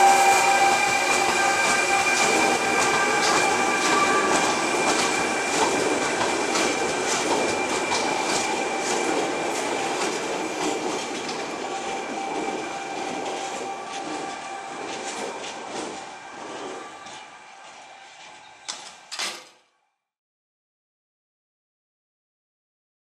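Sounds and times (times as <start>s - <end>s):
train wheels squealing: 0.0s - 19.3s.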